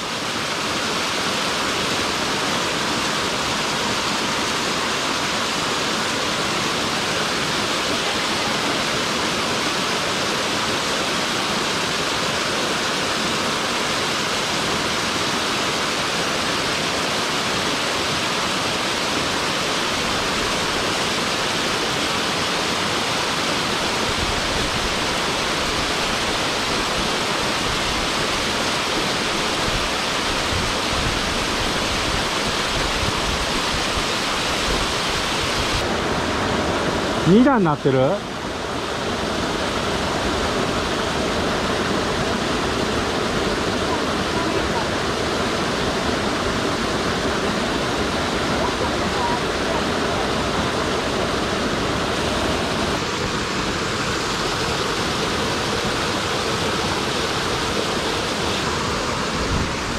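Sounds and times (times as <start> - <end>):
waterfall rushing over rock: 0.0 - 59.9.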